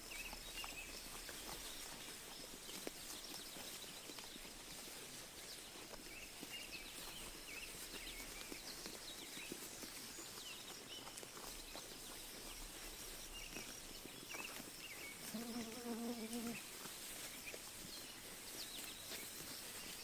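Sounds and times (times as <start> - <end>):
sheep chewing grass: 0.0 - 20.0.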